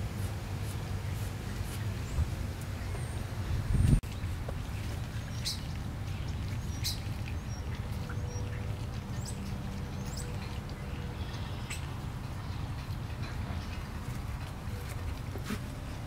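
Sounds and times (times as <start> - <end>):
birds chirping: 0.6 - 16.0.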